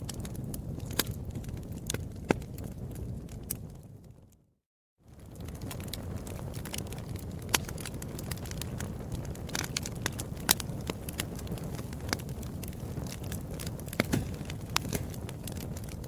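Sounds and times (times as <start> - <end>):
sharp pops of fire: 0.0 - 3.8, 5.1 - 16.0
wood fire crackling: 0.0 - 4.4, 5.1 - 16.0.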